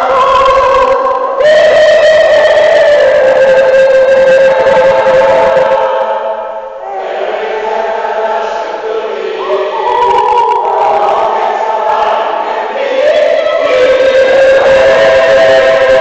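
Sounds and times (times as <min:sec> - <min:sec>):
gospel choir singing chords: 0:00.0 - 0:16.0.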